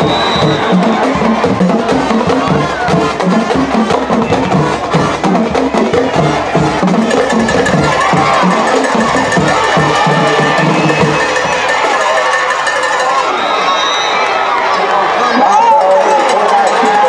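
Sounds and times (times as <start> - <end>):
drumline playing quick beat: 0.0 - 13.5, 15.4 - 17.0
crowd noise: 0.0 - 17.0.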